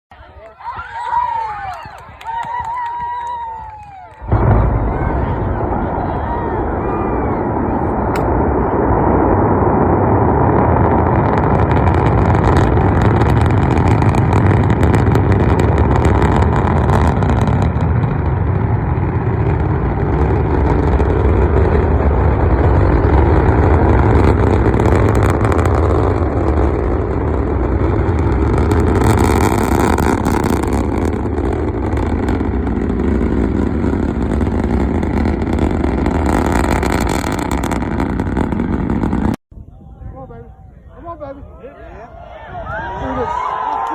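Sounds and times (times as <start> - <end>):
rocket engines rumbling: 0.2 - 43.9.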